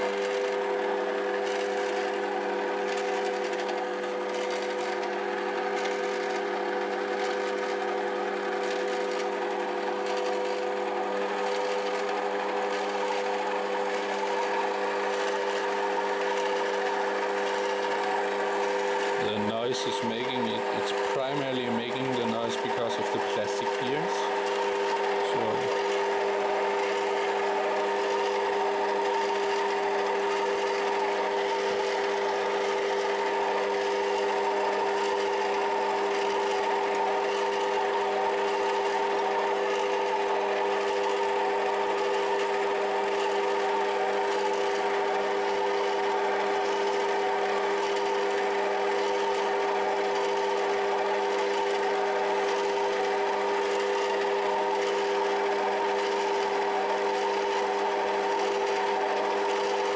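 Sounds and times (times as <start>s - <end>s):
lathe geared whine: 0.0s - 59.9s.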